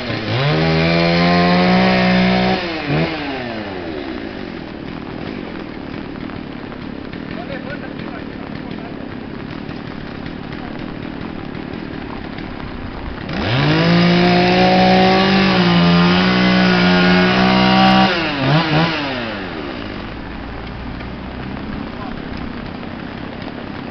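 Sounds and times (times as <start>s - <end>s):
chainsaw revving and idling: 0.0s - 23.9s.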